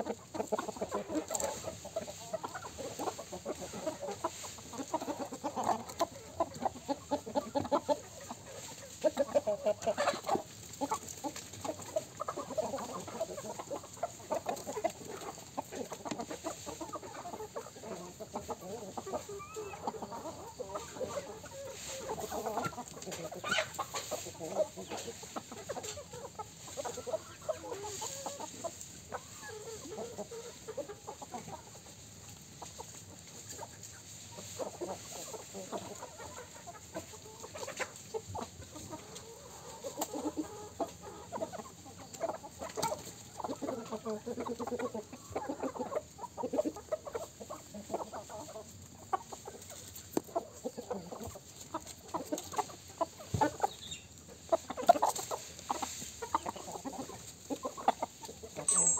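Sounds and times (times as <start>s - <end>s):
chickens clucking: 0.0s - 58.9s.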